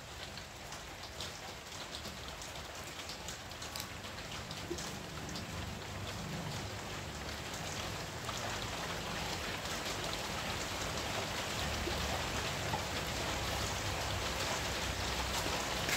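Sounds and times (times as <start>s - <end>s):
raindrops ticking on surfaces: 0.0s - 15.9s
steady rain falling: 0.0s - 15.9s.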